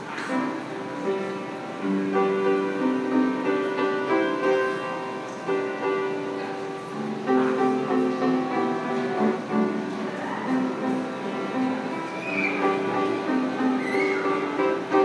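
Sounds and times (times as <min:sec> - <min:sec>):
piano chords and melody: 0:00.0 - 0:15.0.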